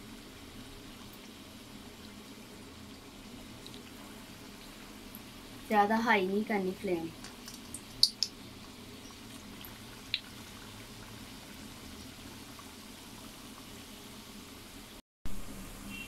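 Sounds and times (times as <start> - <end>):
dough sizzling in hot oil: 0.0 - 16.0.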